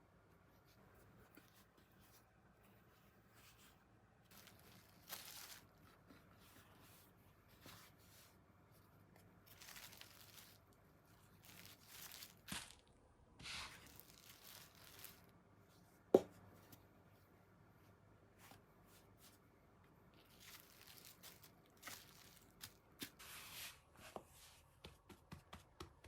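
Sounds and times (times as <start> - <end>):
kitchen rustling and crinkling: 0.4 - 17.3, 18.3 - 26.0.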